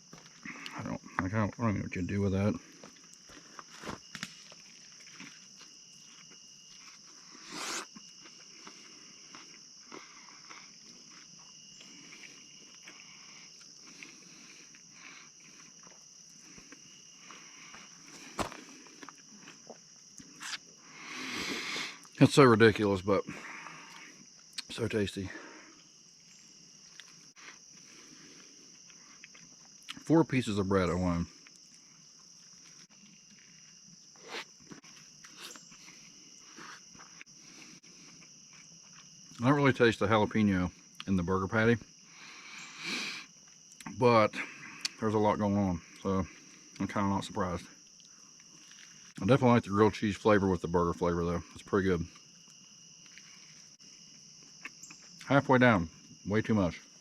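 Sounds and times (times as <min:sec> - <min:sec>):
crickets chirping: 0:00.0 - 0:57.0
insect chorus: 0:00.0 - 0:57.0.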